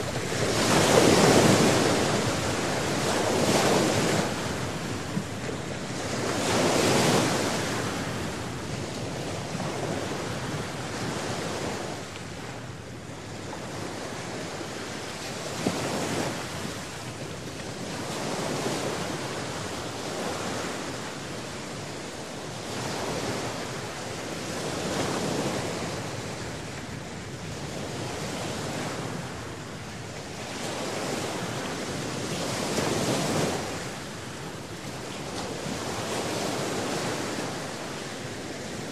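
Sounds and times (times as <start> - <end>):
waves breaking and washing: 0.0 - 38.9.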